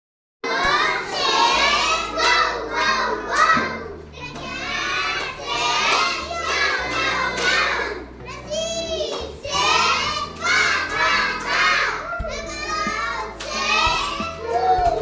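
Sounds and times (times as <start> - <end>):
children shouting and chattering: 0.4 - 15.0.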